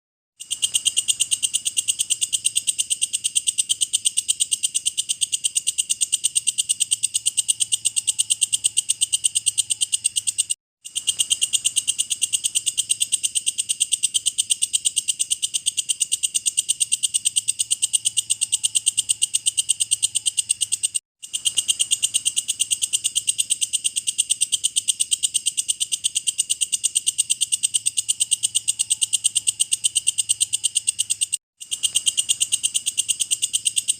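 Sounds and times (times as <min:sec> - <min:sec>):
katydid chirping: 0:00.4 - 0:33.9.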